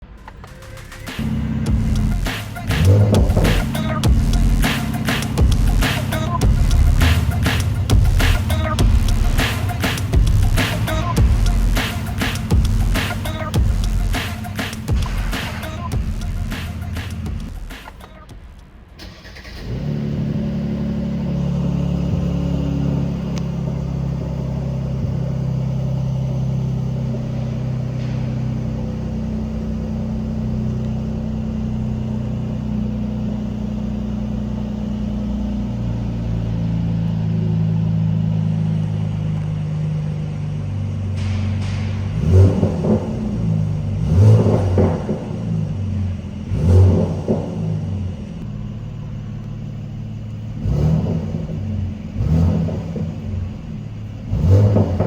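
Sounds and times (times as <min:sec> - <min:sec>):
engine revving: 0:00.0 - 0:18.3, 0:19.0 - 0:48.8, 0:50.0 - 0:55.0
car engine starting and idling: 0:00.0 - 0:55.0.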